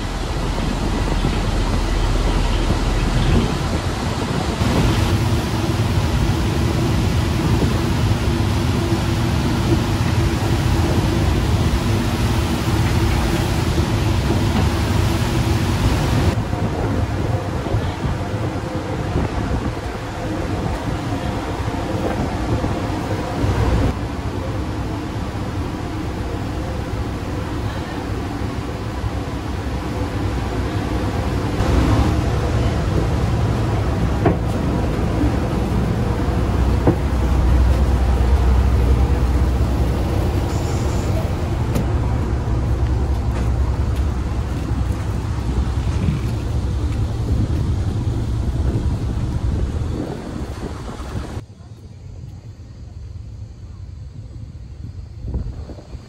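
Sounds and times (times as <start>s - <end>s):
wind buffeting microphone: 0.0s - 24.5s, 25.3s - 51.4s, 53.3s - 56.0s
rushing water: 0.0s - 51.4s
ferry engine drone: 0.0s - 55.7s.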